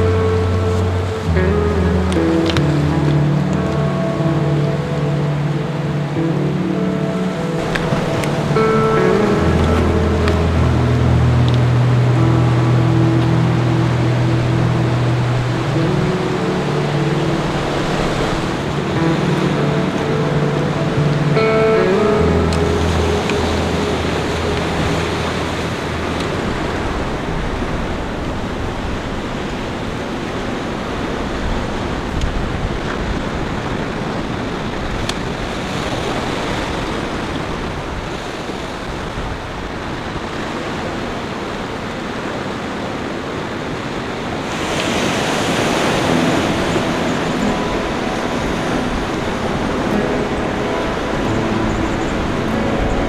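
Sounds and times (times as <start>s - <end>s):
surf breaking on rocks: 0.0s - 53.0s
wind on microphone: 0.0s - 53.0s.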